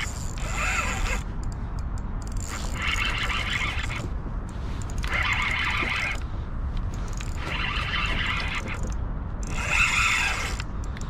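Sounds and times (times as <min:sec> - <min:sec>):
fishing reel cranking: 0:00.0 - 0:04.1, 0:04.8 - 0:06.3, 0:06.9 - 0:11.0
steady low rumble: 0:00.0 - 0:11.0.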